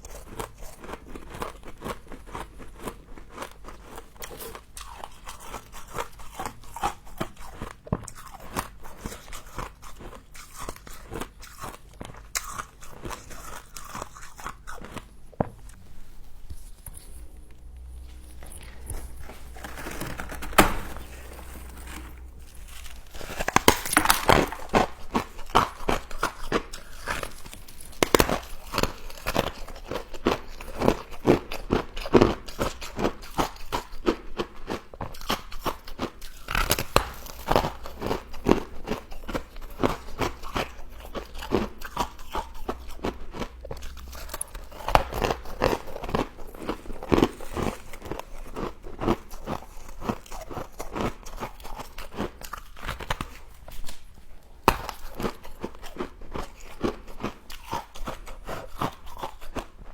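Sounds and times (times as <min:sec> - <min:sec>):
crunching and chewing of frost: 0:00.0 - 0:59.9.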